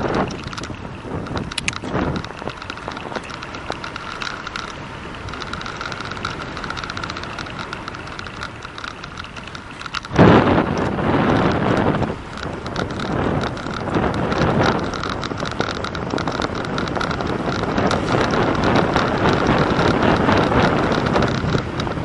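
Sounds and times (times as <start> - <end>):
bicycle rolling on pavement: 0.0 - 22.0
small ticks and rattles: 0.0 - 22.0
wind buffeting microphone: 0.0 - 22.0.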